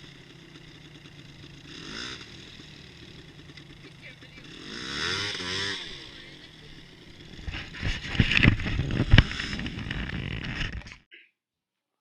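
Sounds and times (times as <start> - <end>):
atv engine running: 0.0 - 10.8.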